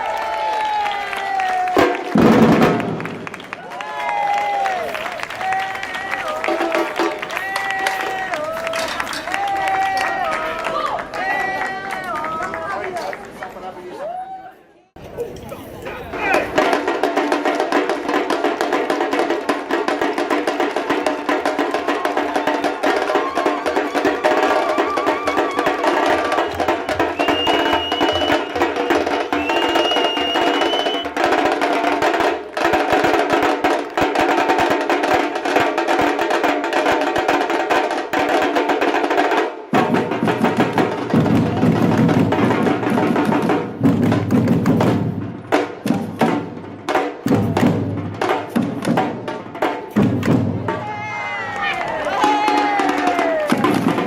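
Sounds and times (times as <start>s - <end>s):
samba percussion group: 1.3s - 12.6s, 15.8s - 54.0s.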